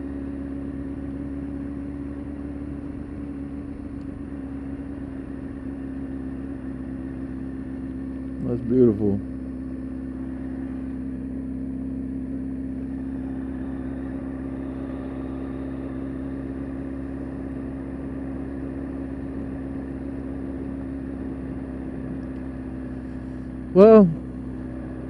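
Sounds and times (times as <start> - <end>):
motorcycle engine running steadily: 0.0 - 25.0.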